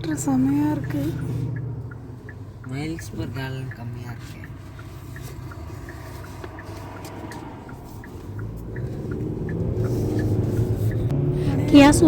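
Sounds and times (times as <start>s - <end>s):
faint light ticks: 0.0s - 11.1s
car engine and road rumble: 0.0s - 12.0s.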